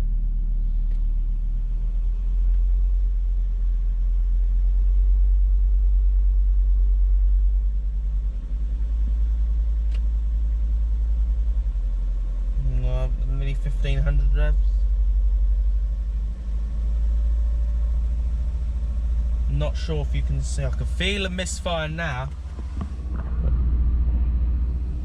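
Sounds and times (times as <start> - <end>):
car engine droning: 0.0 - 25.0.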